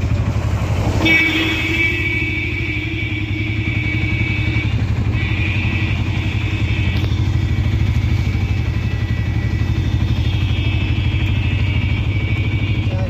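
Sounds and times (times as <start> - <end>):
auto-rickshaw engine droning: 0.0 - 13.0.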